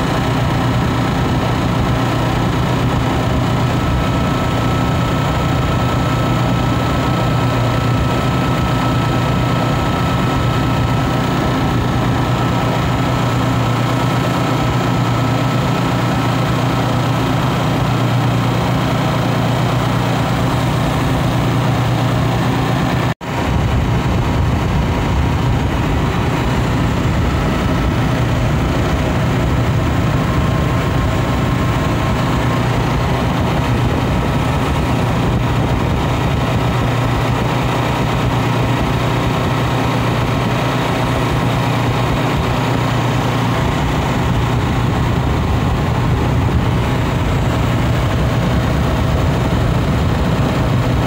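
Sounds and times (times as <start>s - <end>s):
compressor humming: 0.0s - 51.0s.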